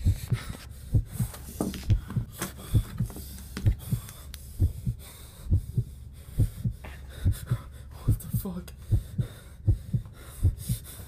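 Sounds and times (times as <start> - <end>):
heartbeat double thumps: 0.0 - 11.0
steady low hum: 0.0 - 11.0.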